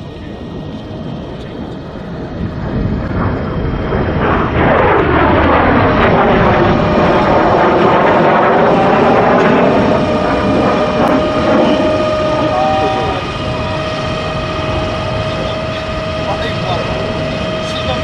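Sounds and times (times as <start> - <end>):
jet engine passing overhead: 0.0 - 18.0.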